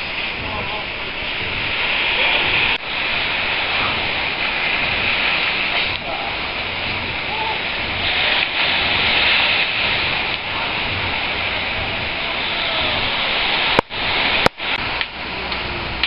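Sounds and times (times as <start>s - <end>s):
ocean surf washing up beach: 0.0s - 16.0s.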